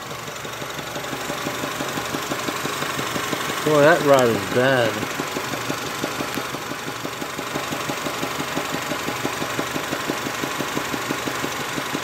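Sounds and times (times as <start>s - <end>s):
car engine idling with knock: 0.0s - 12.0s.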